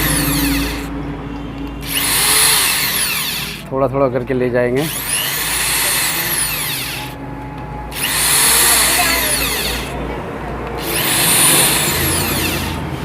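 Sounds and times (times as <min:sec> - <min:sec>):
power driver whining: 0:00.0 - 0:03.7, 0:04.8 - 0:13.0.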